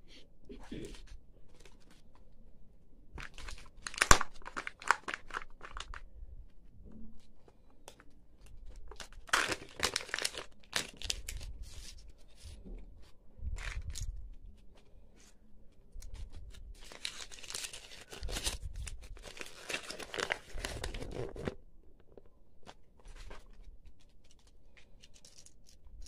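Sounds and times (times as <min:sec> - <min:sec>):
plastic and foil crinkling: 0:03.2 - 0:06.1, 0:07.2 - 0:12.6, 0:13.5 - 0:26.0.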